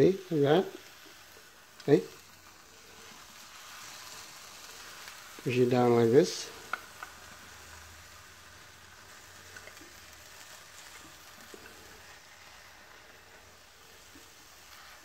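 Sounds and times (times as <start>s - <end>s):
faint sizzling of omelette in pan: 0.0s - 15.0s.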